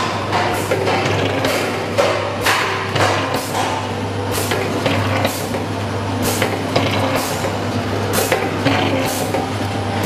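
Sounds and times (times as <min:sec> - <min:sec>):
machine humming: 0:00.0 - 0:10.0
machine hissing: 0:00.6 - 0:10.0.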